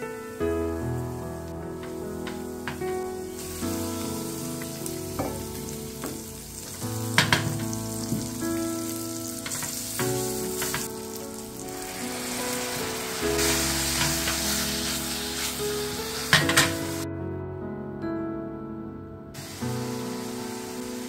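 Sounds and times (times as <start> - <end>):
background music: 0.0 - 21.0
pasta sizzling in a pan: 0.9 - 17.0, 19.4 - 21.0.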